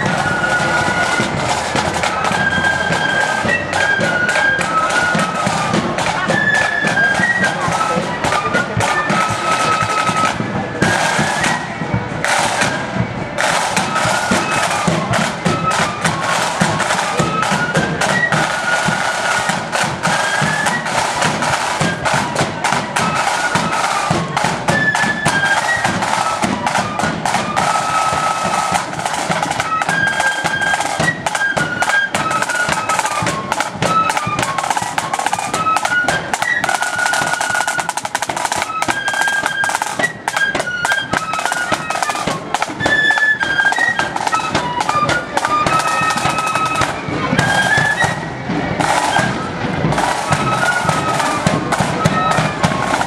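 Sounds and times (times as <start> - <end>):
high flute melody: 0.0 - 53.0
snare drums: 0.0 - 53.0.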